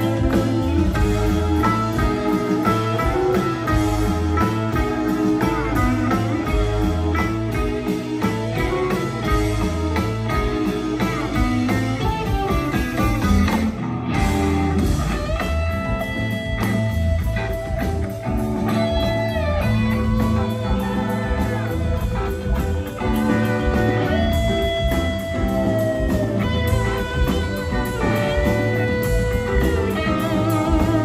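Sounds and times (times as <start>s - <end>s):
lead guitar sustained bending notes: 0.0s - 31.0s
live rock band playing: 0.0s - 31.0s.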